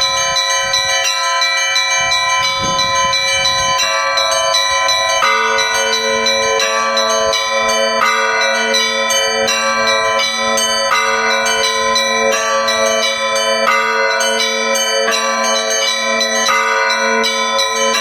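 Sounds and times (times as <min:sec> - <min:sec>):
deep bell tolling: 0:00.0 - 0:18.0
small church bells ringing: 0:00.0 - 0:18.0.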